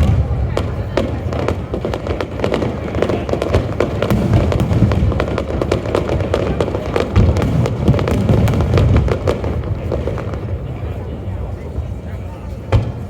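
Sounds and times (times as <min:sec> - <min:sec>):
fireworks crackling reports: 0:00.0 - 0:13.0
low rumble of fireworks bursts: 0:00.0 - 0:13.0.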